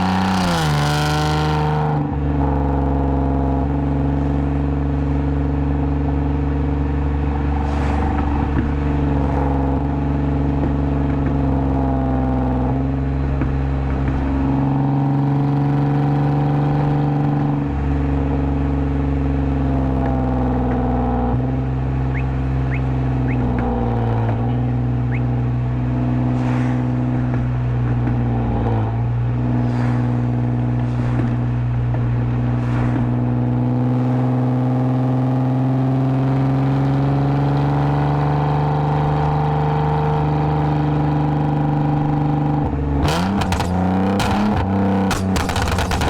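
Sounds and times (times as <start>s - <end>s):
car engine and exhaust cruising: 0.0s - 46.0s.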